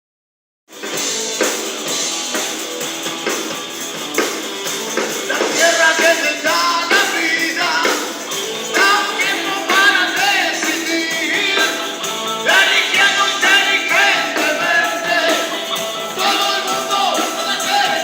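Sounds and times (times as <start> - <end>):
blues-rock band playing: 0.7 - 18.0.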